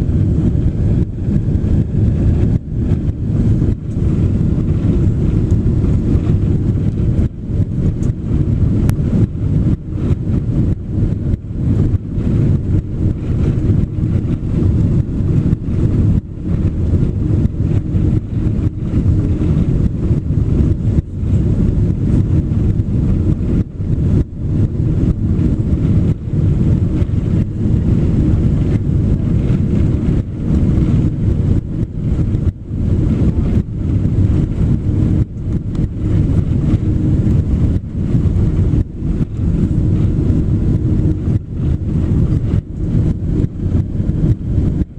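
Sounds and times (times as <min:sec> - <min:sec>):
airliner cabin engine rumble: 0:00.0 - 0:44.9.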